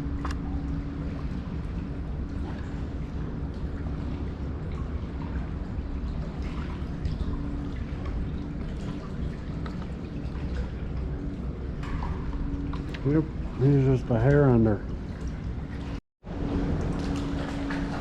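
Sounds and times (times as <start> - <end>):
water dripping and trickling: 0.0 - 18.0.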